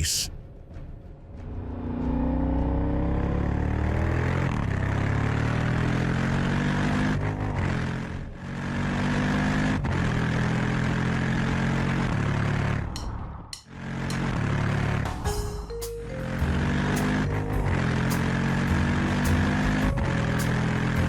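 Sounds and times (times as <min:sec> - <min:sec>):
engine running: 0:00.6 - 0:21.0.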